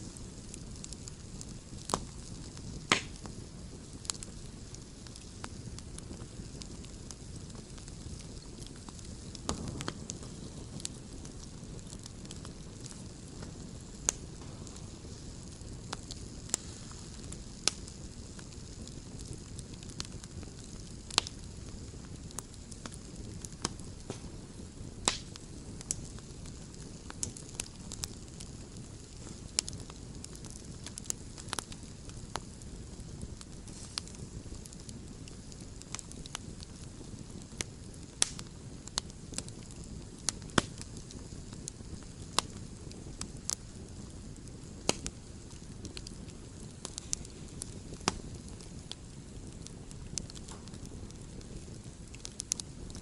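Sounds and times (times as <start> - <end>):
campfire crackling and popping: 0.0 - 53.0.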